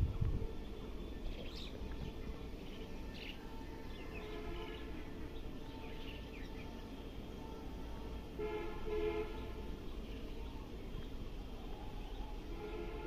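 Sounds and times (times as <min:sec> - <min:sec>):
low outdoor background noise: 0:00.0 - 0:13.0.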